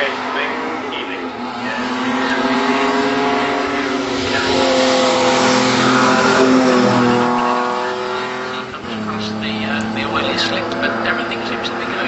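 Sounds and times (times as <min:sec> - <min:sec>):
sports car engine passing by: 0:00.0 - 0:12.0.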